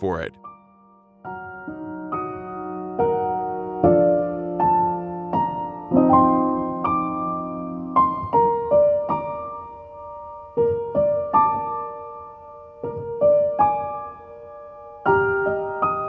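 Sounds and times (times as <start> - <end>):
slow piano music: 0.4 - 16.0.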